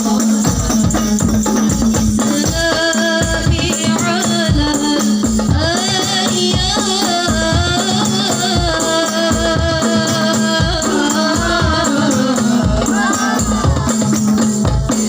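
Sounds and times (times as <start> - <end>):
drum beats: 0.0 - 15.0.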